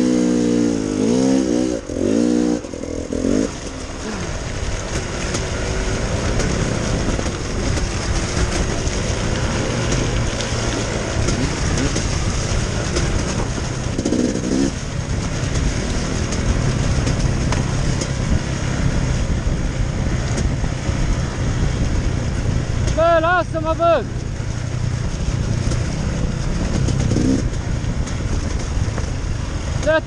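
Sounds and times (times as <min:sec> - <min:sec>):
dirt bike engine under throttle: 0:00.0 - 0:30.0.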